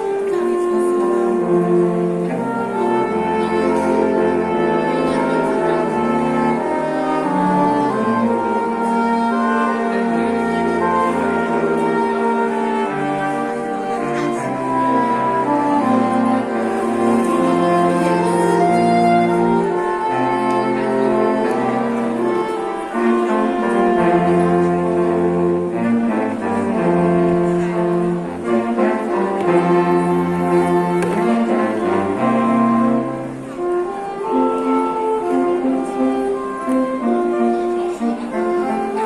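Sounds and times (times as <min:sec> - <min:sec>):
cello bass line: 0:00.0 - 0:39.0.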